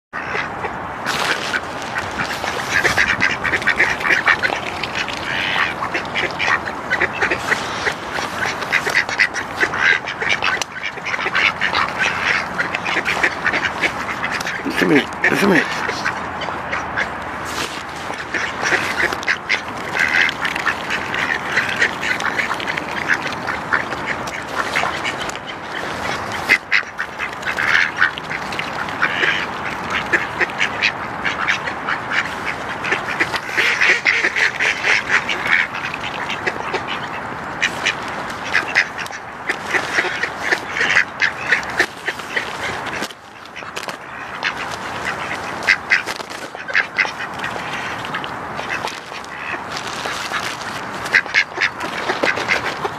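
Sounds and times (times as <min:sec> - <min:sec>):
ducks quacking: 0:00.2 - 0:52.9.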